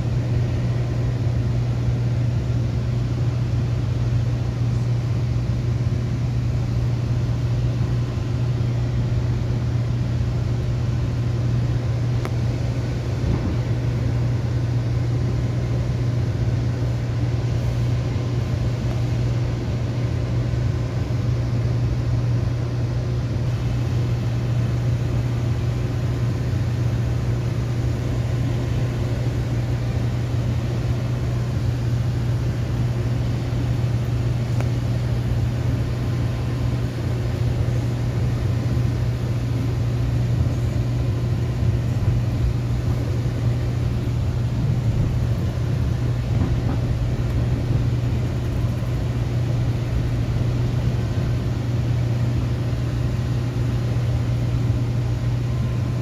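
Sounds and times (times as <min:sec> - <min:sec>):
constant low hum: 0:00.0 - 0:56.0
train rumble inside carriage: 0:00.0 - 0:56.0.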